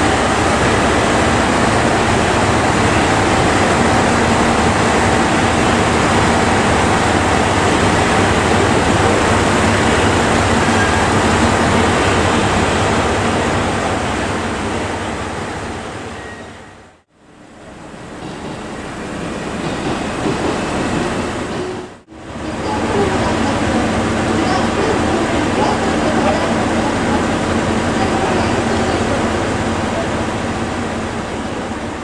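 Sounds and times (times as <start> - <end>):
diesel railcar engine rumbling: 0.0 - 32.0.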